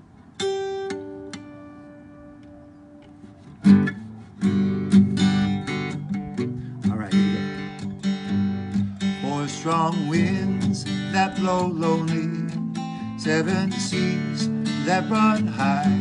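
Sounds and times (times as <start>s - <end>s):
acoustic guitar plucked notes: 0.0s - 16.0s
acoustic guitar strummed chords: 0.0s - 16.0s.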